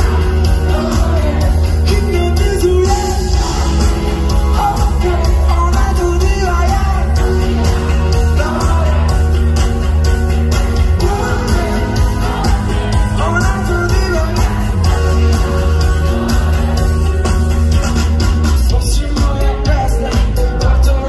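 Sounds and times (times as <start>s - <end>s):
amplified singing: 0.0s - 17.9s, 18.5s - 21.0s
bass-heavy backing music with beat: 0.0s - 21.0s.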